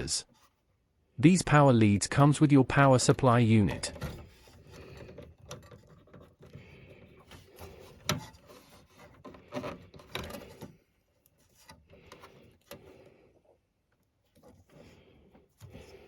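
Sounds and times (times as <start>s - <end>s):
cables rubbing and rustling: 2.8s - 16.0s.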